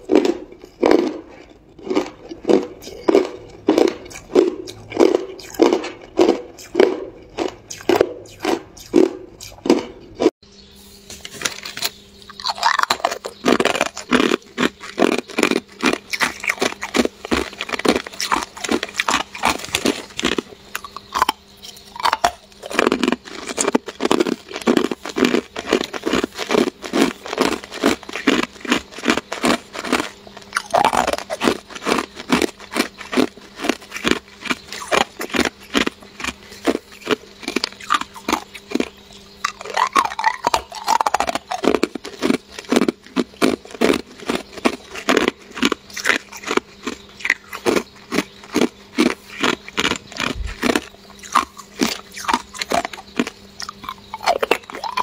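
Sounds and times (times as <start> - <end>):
ice being chewed: 0.0 - 10.4, 11.2 - 55.0.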